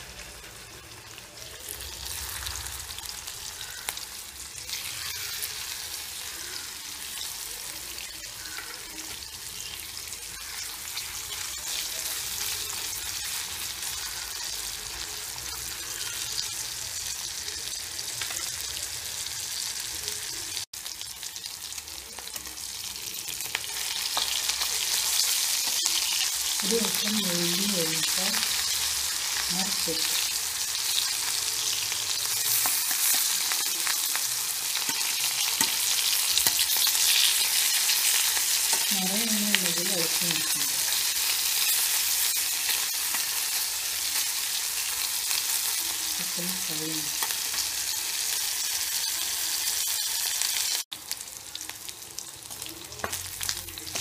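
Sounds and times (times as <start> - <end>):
chicken frying in hot oil: 0.0 - 54.0.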